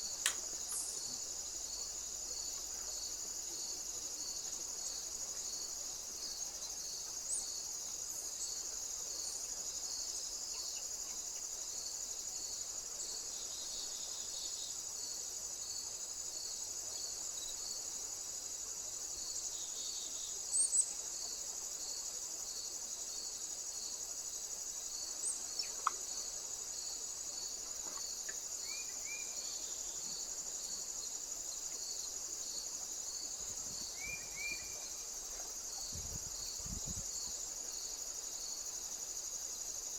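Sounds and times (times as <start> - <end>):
crickets trilling: 0.0 - 39.9
soft cricket chirps: 0.0 - 39.9.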